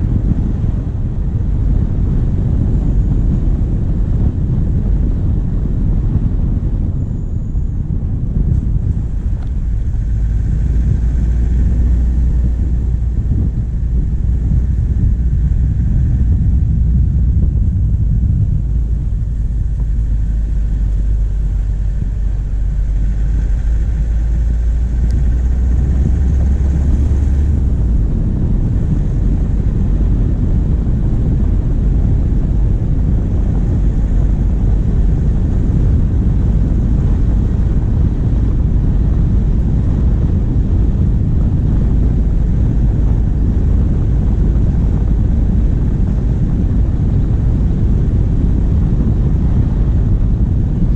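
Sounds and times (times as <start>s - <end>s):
diesel engine rumbling: 0.0s - 50.9s.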